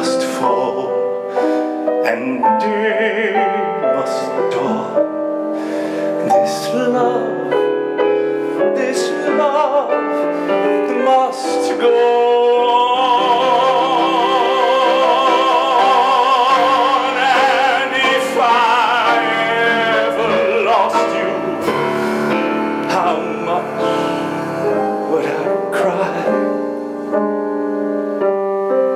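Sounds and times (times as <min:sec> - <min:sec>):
man singing with vibrato: 0:00.0 - 0:27.2
piano accompaniment: 0:00.0 - 0:28.9.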